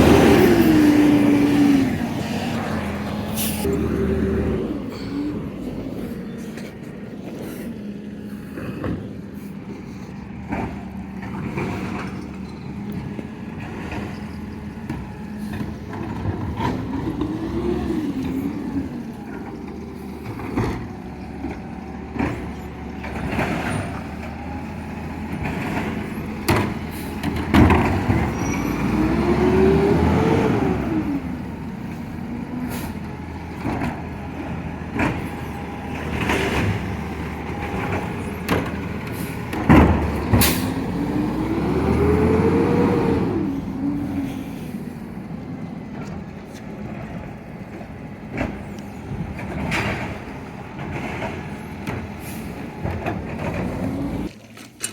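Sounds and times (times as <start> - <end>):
garbage truck engine running: 0.0 - 54.9.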